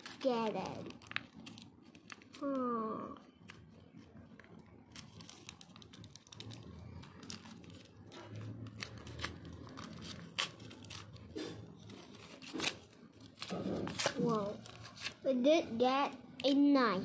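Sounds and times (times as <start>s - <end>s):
paper wrapping crinkling and tearing: 0.0s - 15.4s.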